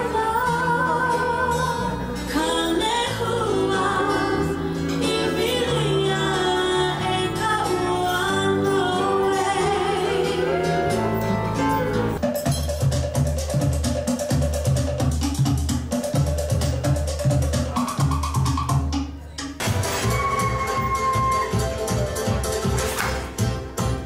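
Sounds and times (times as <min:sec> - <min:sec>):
song with singer and instruments: 0:00.0 - 0:24.0.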